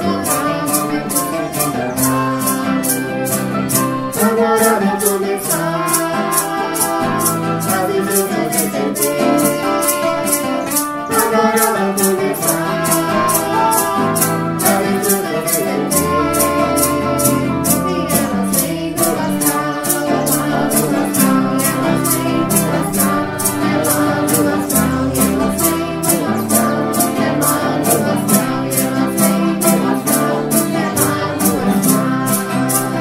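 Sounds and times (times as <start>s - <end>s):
person singing: 0.0s - 33.0s
shaker rattling in steady beat: 0.0s - 33.0s
strummed guitar: 0.0s - 33.0s.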